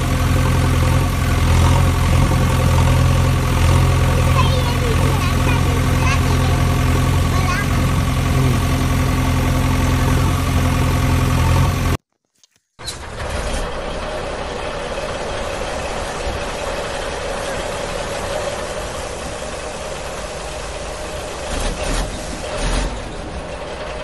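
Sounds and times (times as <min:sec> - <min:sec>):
noisy engine drone: 0:00.0 - 0:12.0, 0:12.9 - 0:24.0
engine humming: 0:00.0 - 0:24.0.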